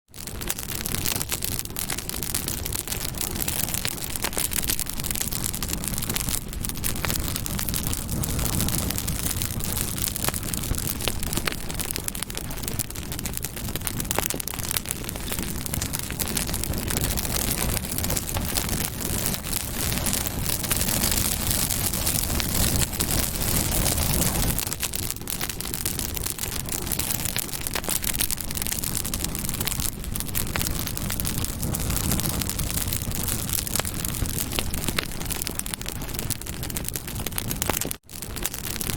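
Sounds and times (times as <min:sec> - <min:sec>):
campfire crackling: 0:00.1 - 0:38.9.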